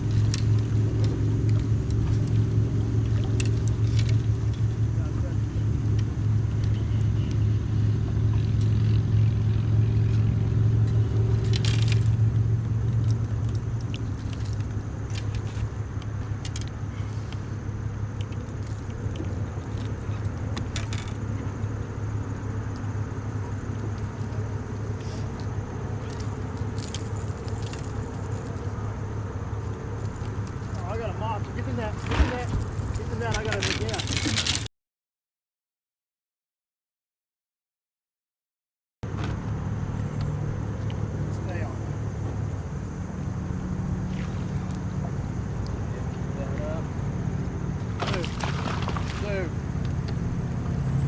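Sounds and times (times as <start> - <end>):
boat motor running: 0.0 - 34.6, 39.1 - 50.7.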